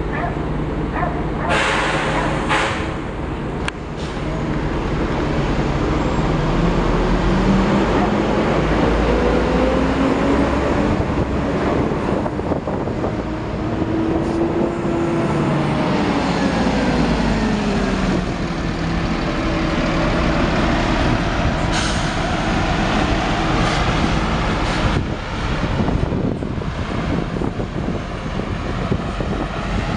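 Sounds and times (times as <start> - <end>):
diesel bus engine: 0.0 - 29.9.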